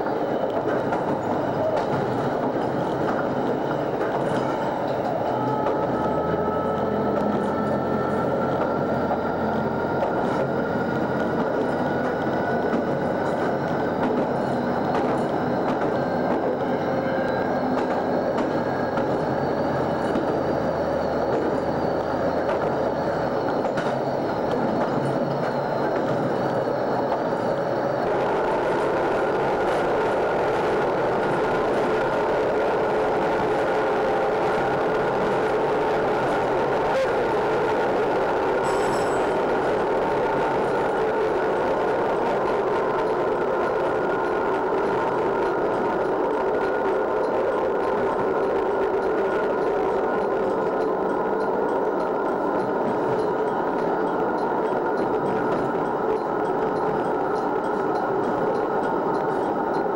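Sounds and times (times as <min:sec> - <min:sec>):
railcar running noise: 0:00.0 - 0:59.9
rising train whine: 0:00.0 - 0:59.9.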